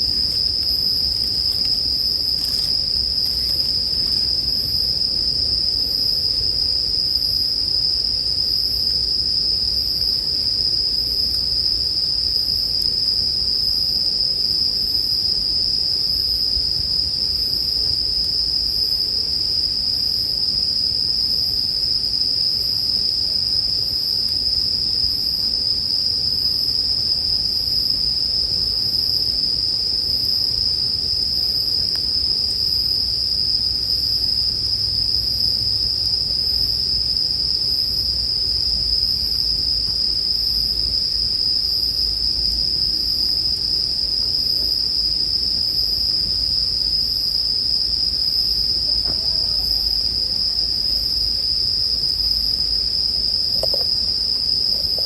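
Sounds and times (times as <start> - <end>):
crickets trilling: 0.0 - 55.0
high insect chirp: 0.0 - 55.0.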